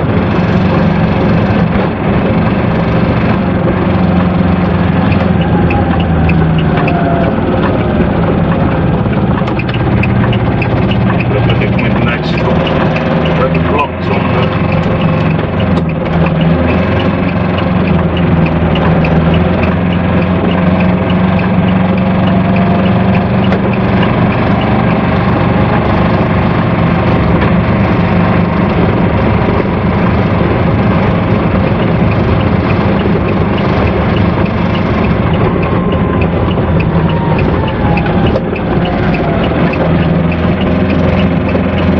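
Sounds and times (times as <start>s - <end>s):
diesel engine running: 0.0s - 41.9s
faint regular ticking: 4.0s - 25.1s, 29.3s - 41.9s.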